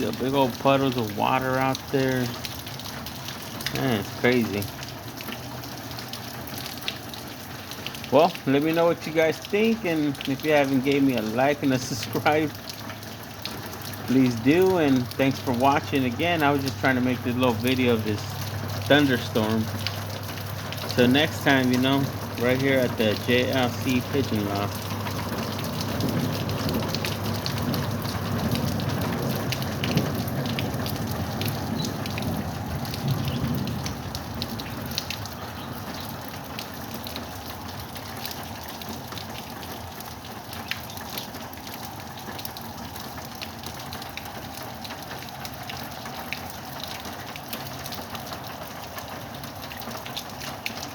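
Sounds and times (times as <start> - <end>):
heavy rain falling: 0.0 - 50.9
raindrops ticking: 0.0 - 50.9.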